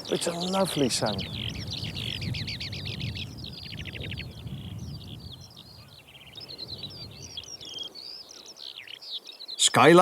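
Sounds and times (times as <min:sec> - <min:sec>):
skylark singing: 0:00.0 - 0:10.0.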